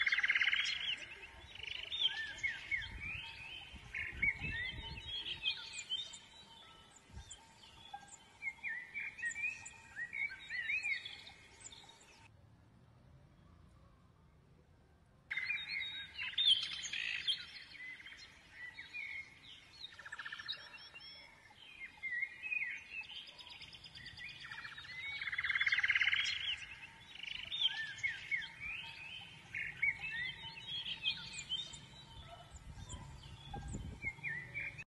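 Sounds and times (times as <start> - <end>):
birds chirping and whistling: 0.0 - 12.3, 15.3 - 34.8.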